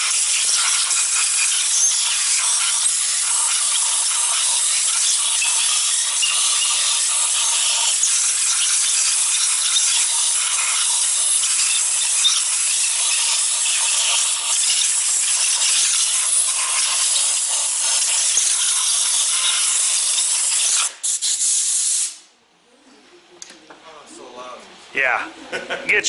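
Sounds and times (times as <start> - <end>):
air blow gun hissing: 0.0 - 22.3.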